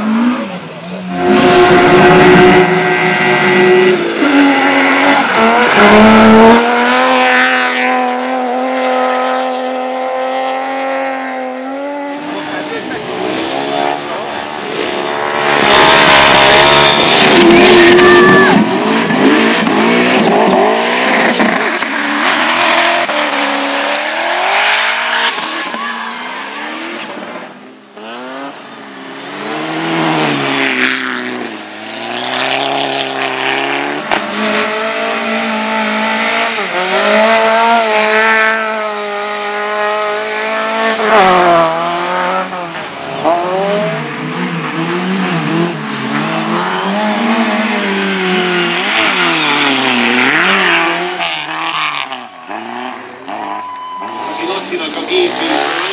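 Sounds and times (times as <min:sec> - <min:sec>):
racing engines revving: 0:00.0 - 0:55.9.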